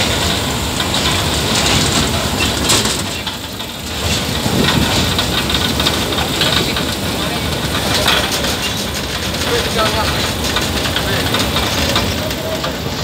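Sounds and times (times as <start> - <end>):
train carriages rumbling and rattling: 0.0 - 13.0.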